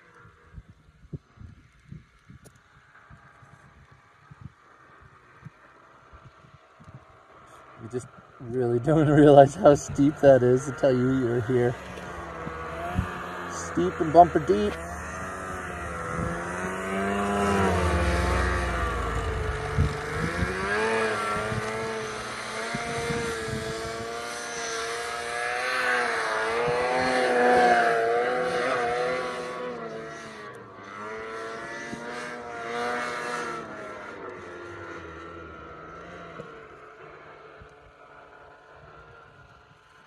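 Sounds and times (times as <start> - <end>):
snowmobile engine working hard: 0.0 - 40.0.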